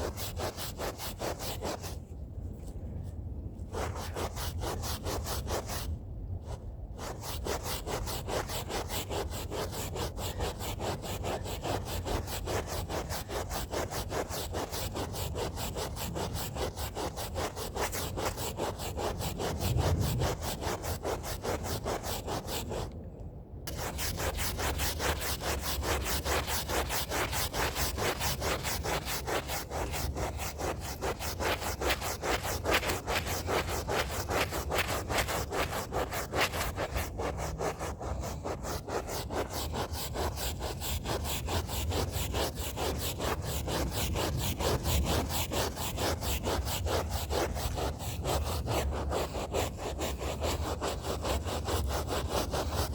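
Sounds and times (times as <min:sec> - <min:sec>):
brush scrubbing carpet: 0:00.0 - 0:02.0, 0:03.7 - 0:05.9, 0:07.0 - 0:22.9, 0:23.7 - 0:52.9.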